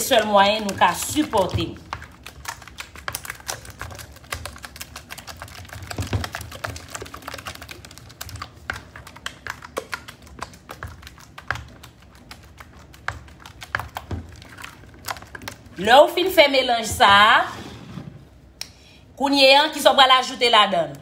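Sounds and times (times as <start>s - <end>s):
wet batter squelching: 0.0s - 17.4s.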